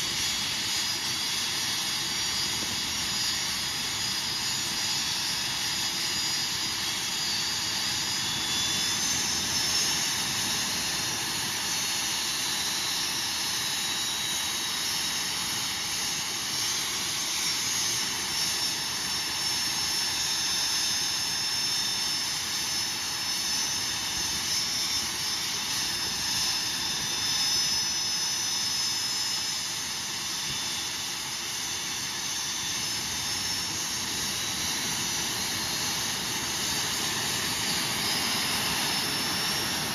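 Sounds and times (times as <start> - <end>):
jet engine rush and whine: 0.0 - 39.9.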